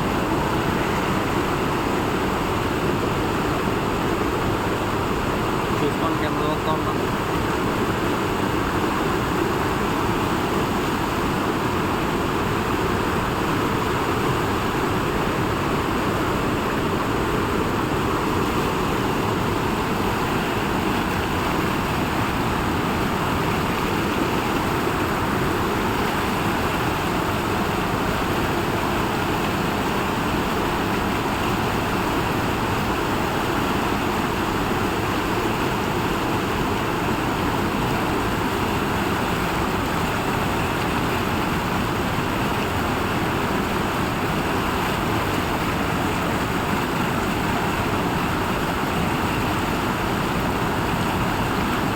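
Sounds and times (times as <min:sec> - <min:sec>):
water flowing: 0:00.0 - 0:51.9.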